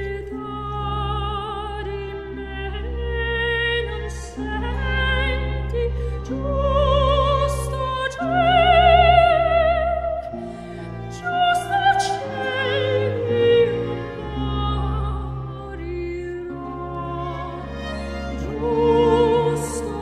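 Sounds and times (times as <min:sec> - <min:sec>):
operatic singing voice: 0:00.0 - 0:20.0
orchestral accompaniment: 0:00.0 - 0:20.0.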